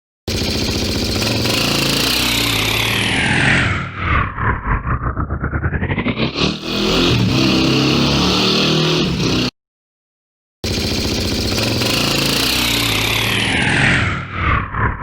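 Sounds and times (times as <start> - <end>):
motorcycle engine revving: 0.3 - 9.6, 10.6 - 15.0.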